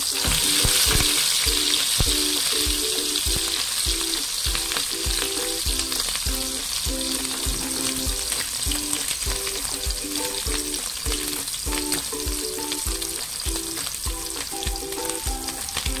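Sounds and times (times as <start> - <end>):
background music with beat: 0.0 - 16.0
omelette sizzling in oil: 0.0 - 16.0.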